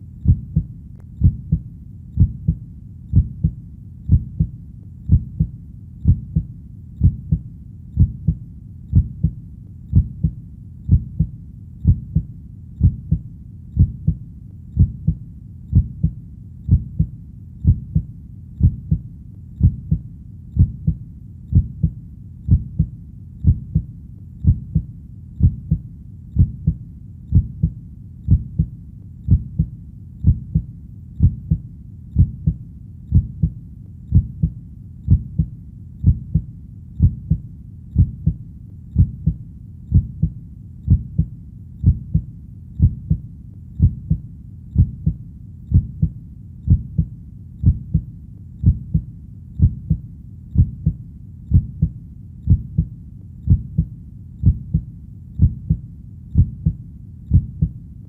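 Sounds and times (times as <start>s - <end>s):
heartbeat thumping: 0.0s - 43.2s, 43.8s - 57.8s.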